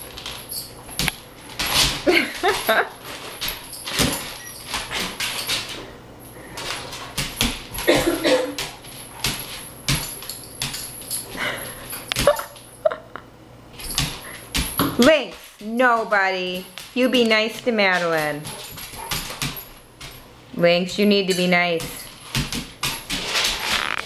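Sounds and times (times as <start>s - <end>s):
paws on wooden floor: 0.0s - 12.7s, 13.8s - 20.4s, 21.3s - 24.0s.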